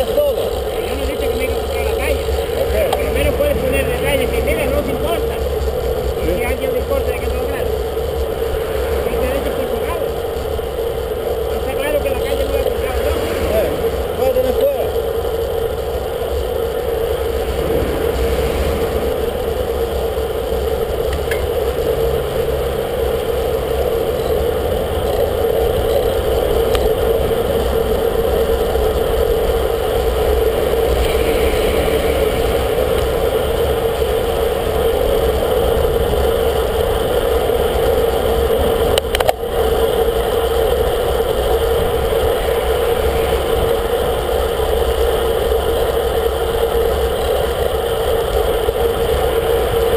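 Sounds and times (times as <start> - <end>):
road rumble: 0.0 - 49.9
wind rush: 2.2 - 38.9, 39.6 - 47.2.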